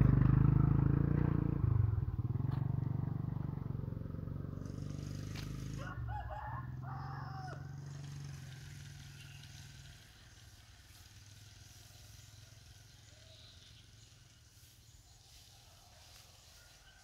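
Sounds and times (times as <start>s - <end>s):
motorcycle engine riding away: 0.0s - 17.0s.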